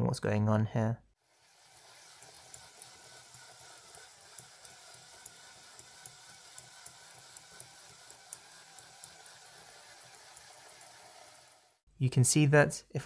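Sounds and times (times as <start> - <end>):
electric motor whir: 1.2 - 11.8.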